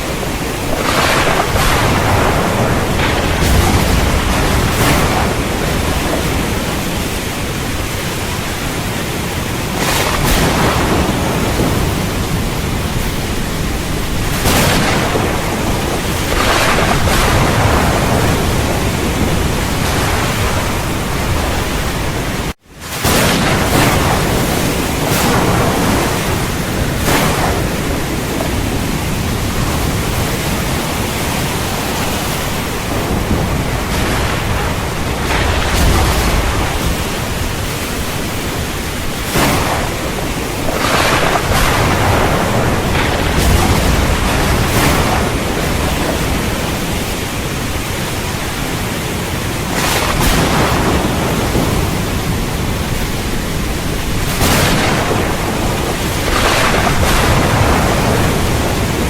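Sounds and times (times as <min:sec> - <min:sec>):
heavy rain: 0:00.0 - 0:59.0
rolling thunder: 0:00.0 - 0:59.0.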